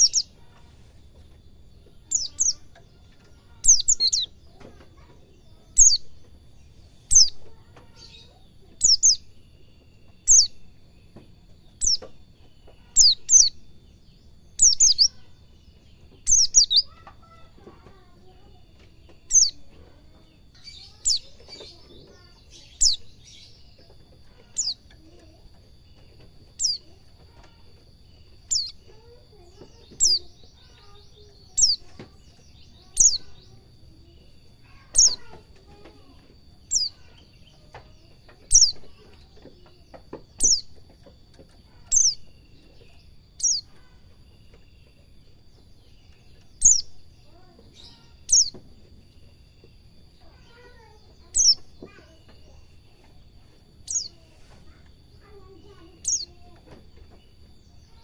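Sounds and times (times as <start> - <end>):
buzzy bird chatter: 0.0 - 58.0.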